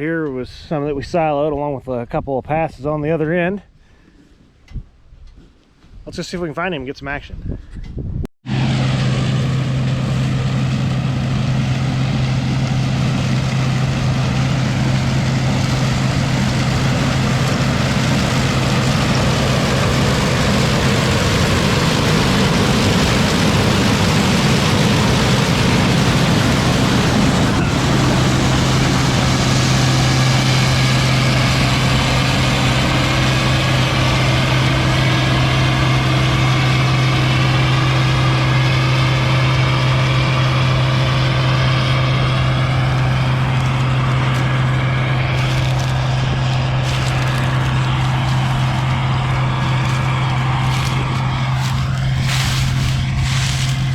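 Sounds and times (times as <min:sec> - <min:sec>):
vehicle engine humming: 0:08.5 - 0:53.9.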